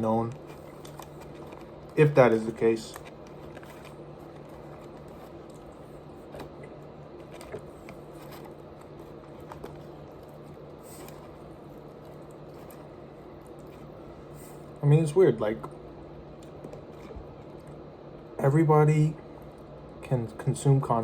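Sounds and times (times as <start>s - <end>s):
faint munching: 0.0s - 14.8s, 15.6s - 18.3s
low background hum: 0.0s - 21.0s.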